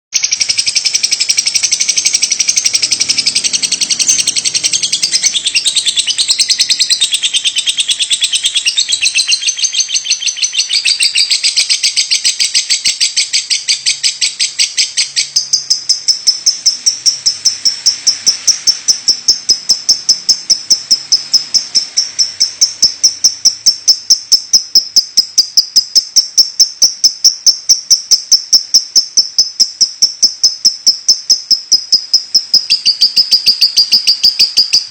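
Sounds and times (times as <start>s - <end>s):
bird chirping rapidly: 0.2s - 34.9s.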